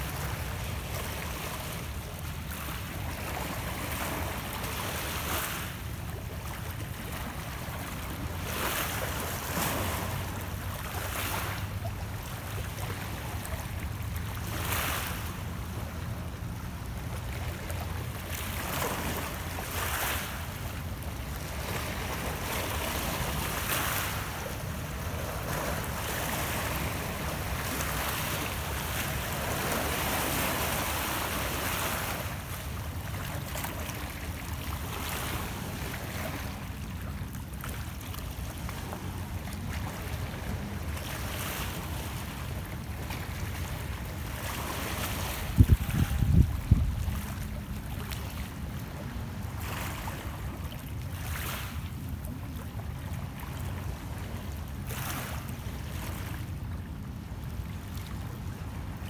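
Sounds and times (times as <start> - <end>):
waves lapping against rocks: 0.0 - 59.0.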